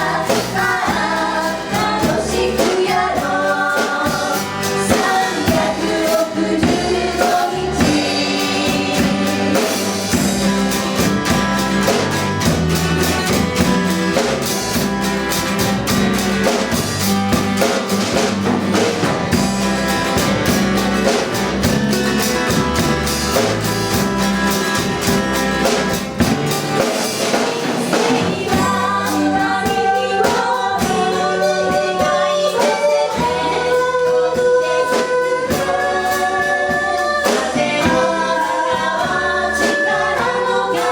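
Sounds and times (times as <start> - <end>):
live band playing: 0.0 - 40.9
people singing: 0.0 - 40.9
percussion beat: 0.0 - 40.9.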